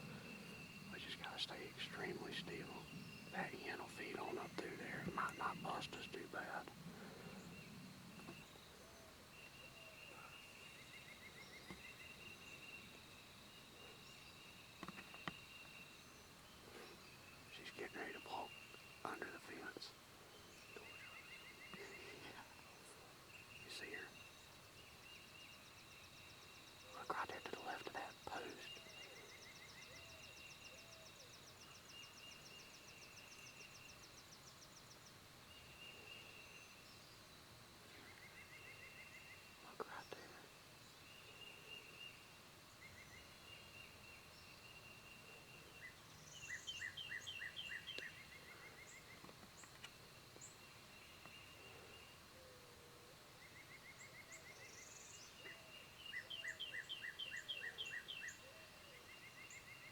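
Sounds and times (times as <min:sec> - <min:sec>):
distant songbird trilling: 0:00.0 - 0:59.9.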